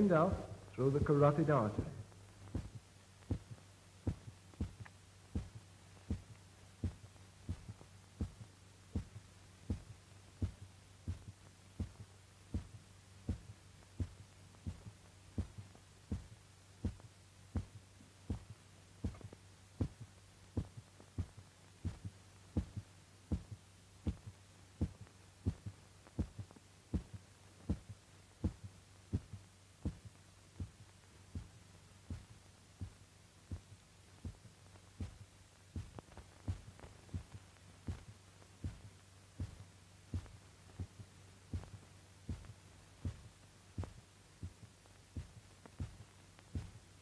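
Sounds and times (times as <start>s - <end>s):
heartbeat thumps: 0.0s - 47.0s
steady low hum: 0.0s - 47.0s.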